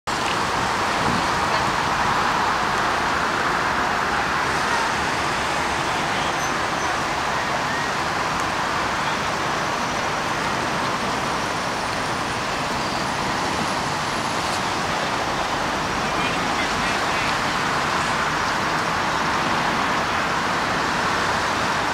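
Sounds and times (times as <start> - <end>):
freeway traffic rushing: 0.1 - 21.9.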